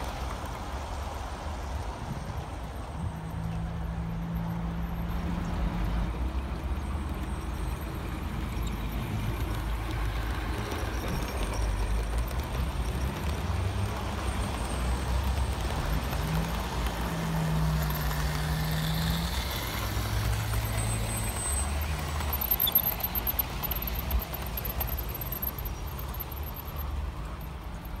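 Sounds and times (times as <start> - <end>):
model locomotive hum: 0.0 - 28.0
wheels clicking on track: 0.0 - 28.0.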